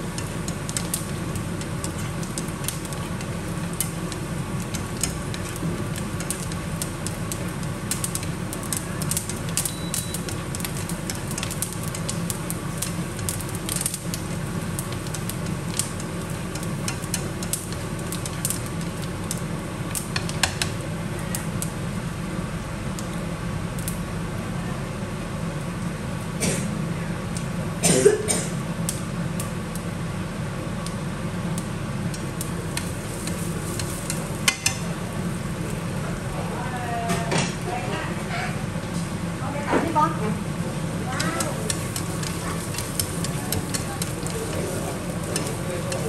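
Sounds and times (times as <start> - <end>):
sharp pops and crackles: 0.0 - 22.0, 27.3 - 37.7, 40.6 - 46.0
oil sizzling in a frying pan: 0.0 - 24.4, 28.5 - 46.0
steady low hum: 0.0 - 46.0.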